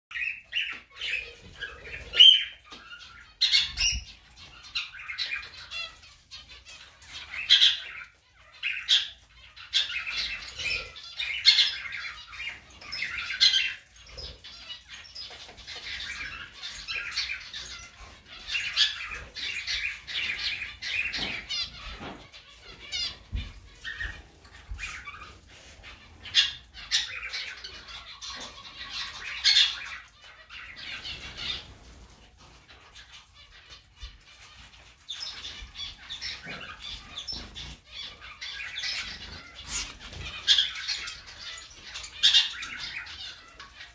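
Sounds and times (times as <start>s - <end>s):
finches calling and chattering: 0.1s - 43.9s.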